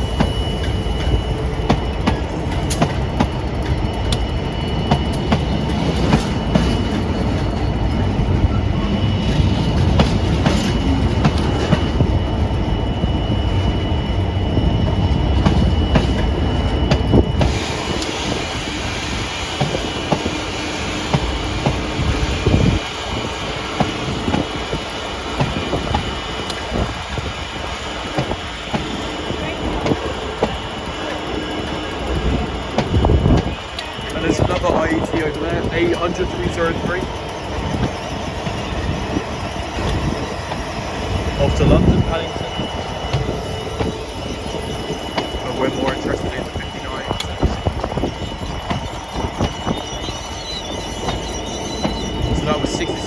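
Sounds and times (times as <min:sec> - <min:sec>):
train rumble: 0:00.0 - 0:53.0
train wheels clicking over joints: 0:00.0 - 0:53.0.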